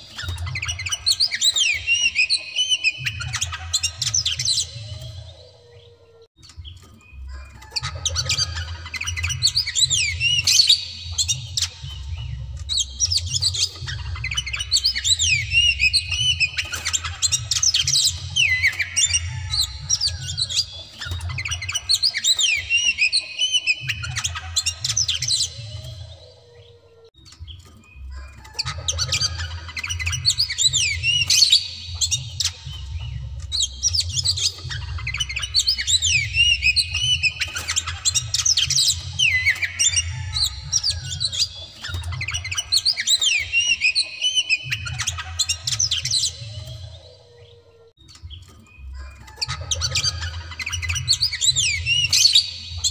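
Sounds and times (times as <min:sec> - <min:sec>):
bird singing whistled song: 0:00.0 - 0:52.9.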